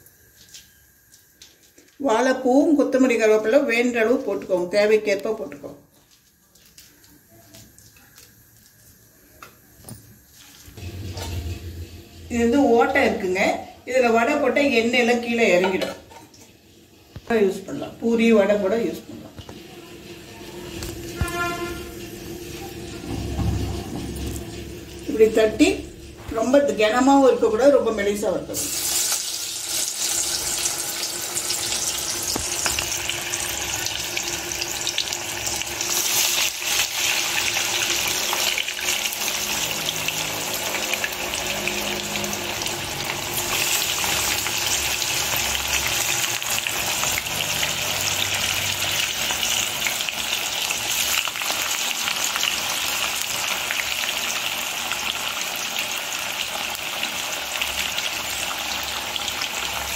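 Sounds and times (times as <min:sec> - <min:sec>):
patties sizzling in hot oil: 0:00.0 - 0:59.9.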